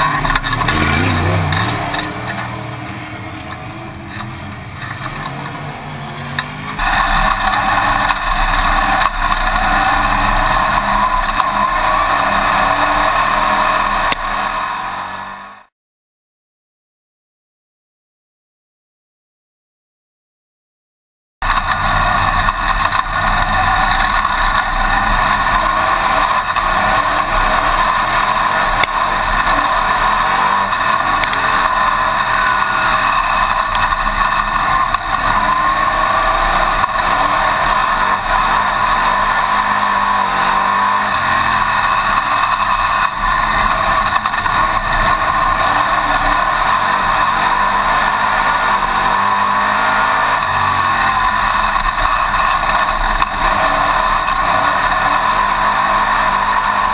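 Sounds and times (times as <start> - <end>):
race car engine running hard: 0.0 - 15.7, 21.4 - 56.9.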